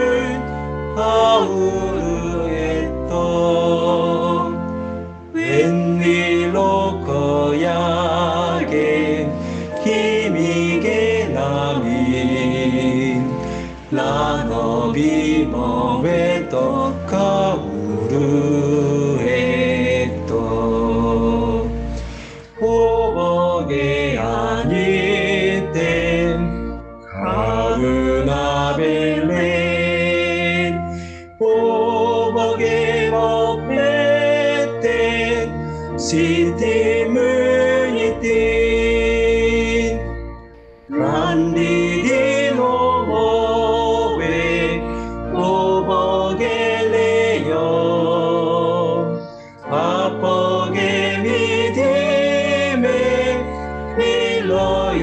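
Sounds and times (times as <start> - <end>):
instrumental accompaniment: 0.0 - 55.0
man and woman singing a hymn: 0.0 - 55.0.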